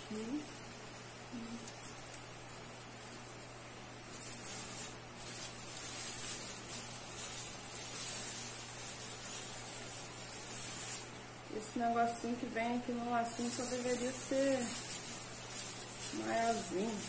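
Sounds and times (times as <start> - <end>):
tinsel rustling and crinkling: 0.0 - 17.0.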